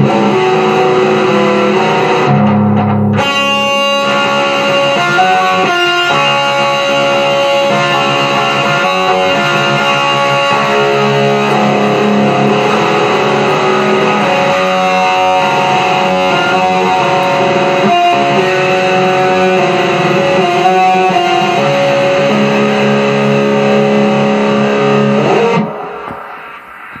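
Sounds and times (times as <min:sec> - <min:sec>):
distorted electric guitar chords: 0:00.0 - 0:27.0.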